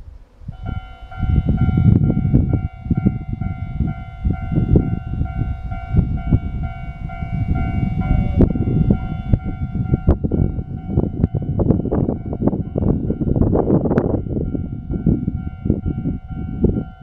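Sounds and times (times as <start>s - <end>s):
heavy low rumble: 0.0s - 17.0s.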